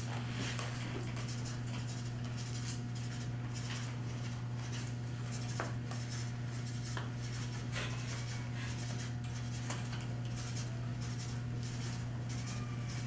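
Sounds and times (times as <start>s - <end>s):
steady low hum: 0.0s - 13.0s
marker squeaking on paper: 1.1s - 13.0s.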